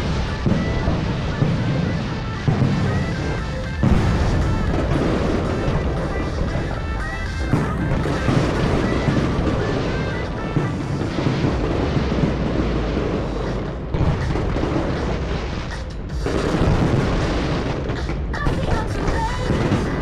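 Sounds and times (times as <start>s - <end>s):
fireworks booming: 0.0s - 20.0s
music over loudspeakers: 0.0s - 20.0s.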